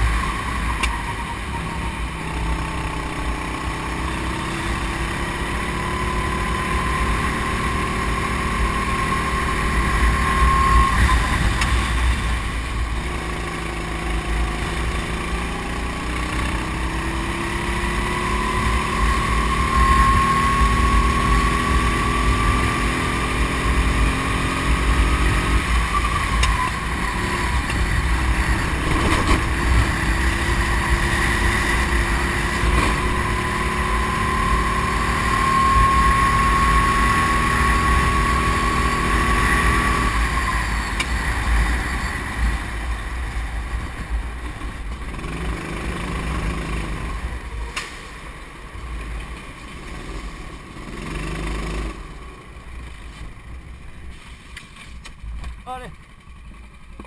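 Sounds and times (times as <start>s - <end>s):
kart engine: 0.0s - 57.0s.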